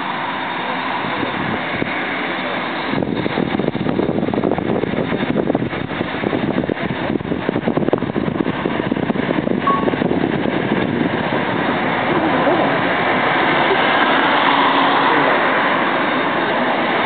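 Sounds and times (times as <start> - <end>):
distant jet engines rumbling: 0.0 - 17.0.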